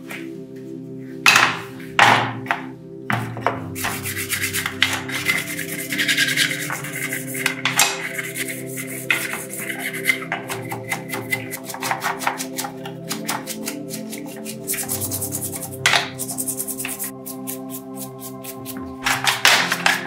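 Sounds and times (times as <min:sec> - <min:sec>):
background music: 0:00.0 - 0:20.0
sanding metal by hand: 0:03.8 - 0:20.0.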